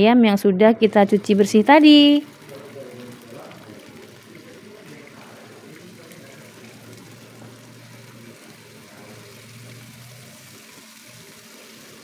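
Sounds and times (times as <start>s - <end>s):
chicken sizzling in a pan: 0.8s - 12.0s.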